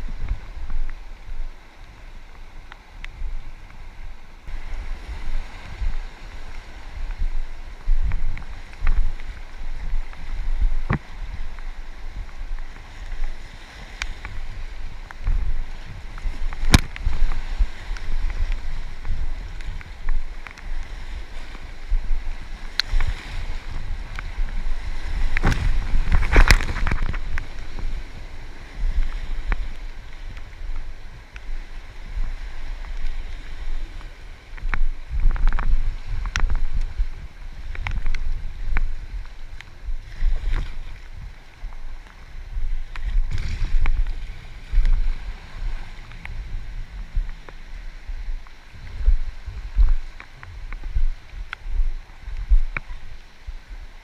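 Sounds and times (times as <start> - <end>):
river water rushing and splashing: 0.0 - 54.0
wind buffeting microphone: 0.0 - 54.0.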